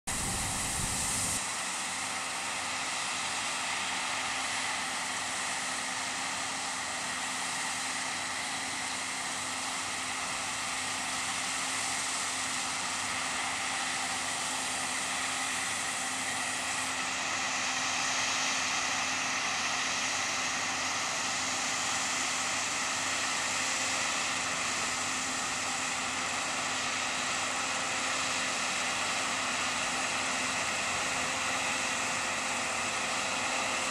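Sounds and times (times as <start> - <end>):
combine harvester drone: 0.1 - 33.9.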